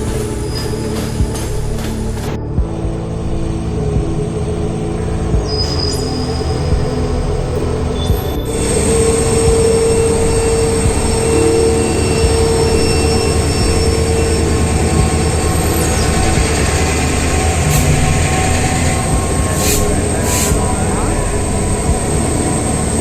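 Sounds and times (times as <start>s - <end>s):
thin whine: 0.0s - 23.0s
train rumbling on rails: 0.0s - 23.0s.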